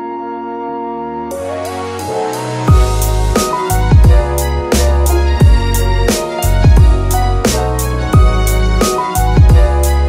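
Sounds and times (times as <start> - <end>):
electronic music with heavy beat: 1.3 - 10.0.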